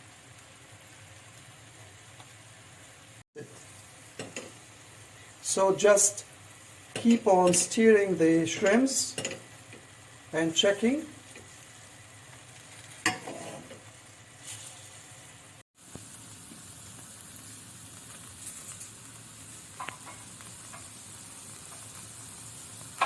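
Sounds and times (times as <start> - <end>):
shrimps sizzling in oil: 0.0 - 23.0.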